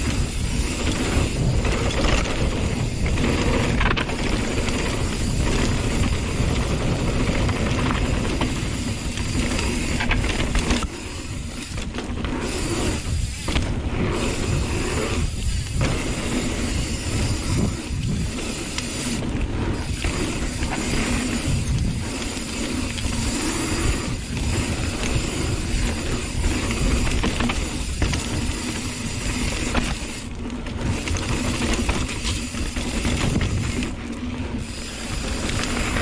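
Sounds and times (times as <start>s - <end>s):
bike chain and frame rattling: 0.0s - 36.0s
tyres rolling over dirt: 0.0s - 36.0s
wind rush on microphone: 0.0s - 36.0s.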